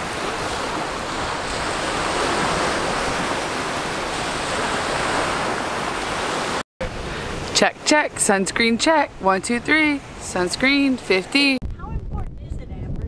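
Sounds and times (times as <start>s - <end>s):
waves washing in: 0.0s - 11.6s.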